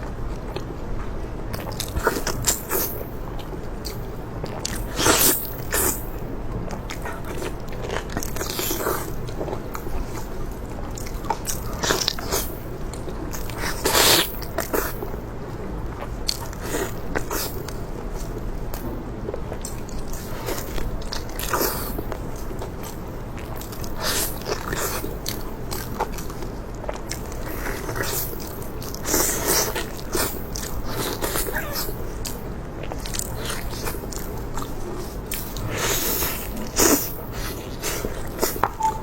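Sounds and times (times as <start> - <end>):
person chewing crunchy food: 1.5 - 6.1, 6.7 - 15.1, 19.5 - 39.0.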